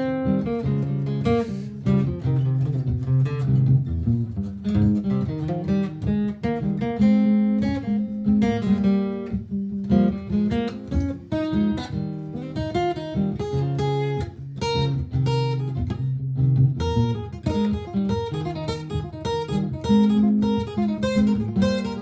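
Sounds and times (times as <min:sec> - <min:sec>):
acoustic guitar plucking and strumming: 0:00.0 - 0:22.0.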